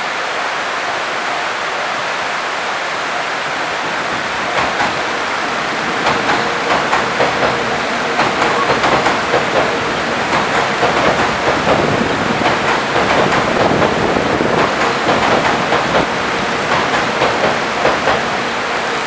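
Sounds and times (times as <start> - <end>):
electric train going by: 0.0 - 19.0
waterfall roaring: 0.0 - 19.0.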